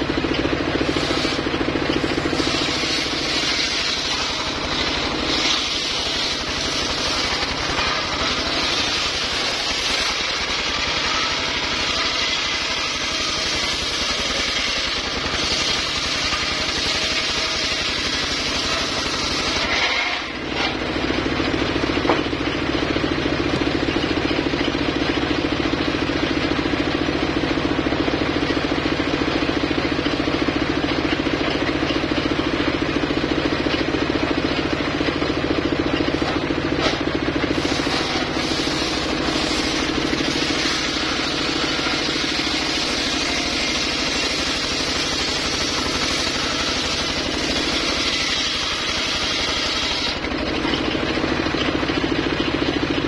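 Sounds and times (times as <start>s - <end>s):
saw blade cutting timber: 0.0s - 53.0s
saw engine humming: 0.0s - 53.0s.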